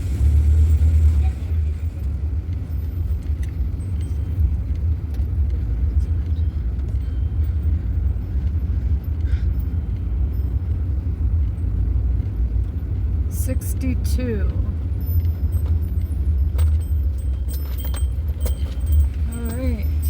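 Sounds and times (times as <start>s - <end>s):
van engine rumble: 0.0s - 20.0s.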